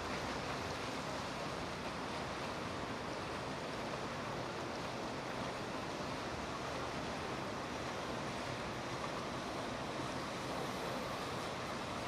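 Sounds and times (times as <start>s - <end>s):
water rushing from a boat wake: 0.0s - 12.0s.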